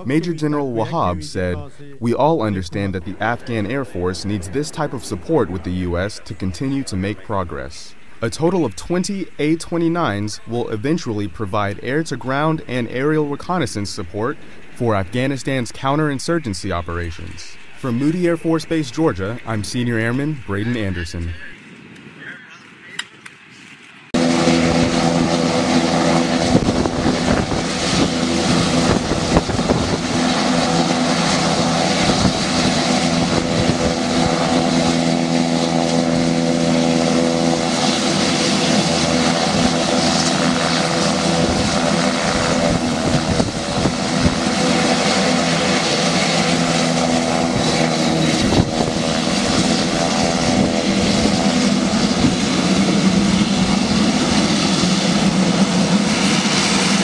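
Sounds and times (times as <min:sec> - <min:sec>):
turboprop engine droning: 0:00.0 - 0:57.0.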